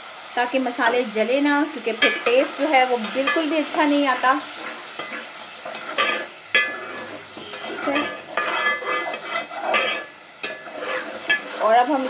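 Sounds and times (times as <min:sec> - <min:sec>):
light frying sizzle: 0:00.0 - 0:12.0
metal spatula scraping pot: 0:02.0 - 0:12.0.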